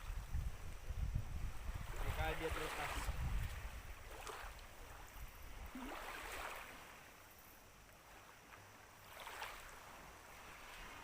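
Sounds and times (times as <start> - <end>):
small waves lapping at shore: 0.0 - 11.0.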